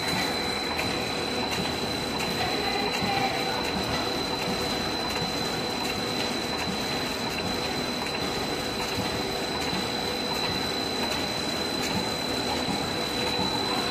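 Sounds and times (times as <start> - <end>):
high machine whine: 0.0 - 13.9
packing machine running: 0.0 - 13.9.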